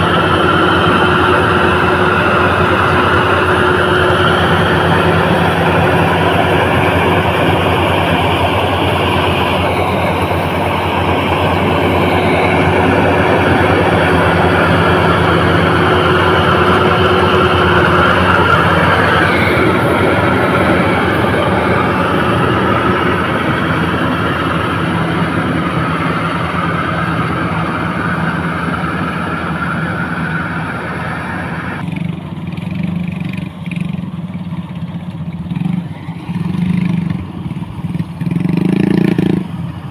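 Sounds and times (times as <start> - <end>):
engine running loudly: 0.0 - 39.9.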